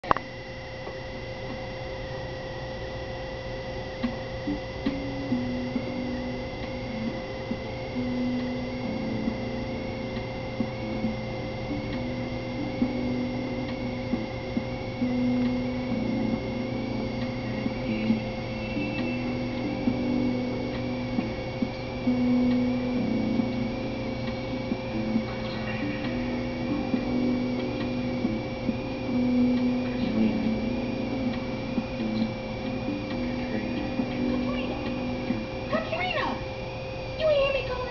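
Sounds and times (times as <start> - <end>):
low droning tone: 0.0 - 37.8
electrical hum: 0.0 - 37.9
low held notes: 0.0 - 37.9
thin high whine: 0.0 - 37.9.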